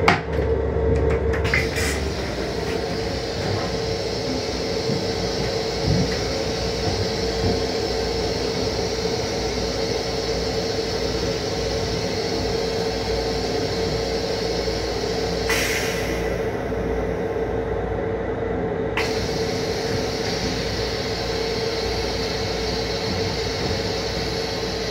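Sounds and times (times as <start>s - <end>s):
train ventilation hum and hiss: 0.0s - 24.9s.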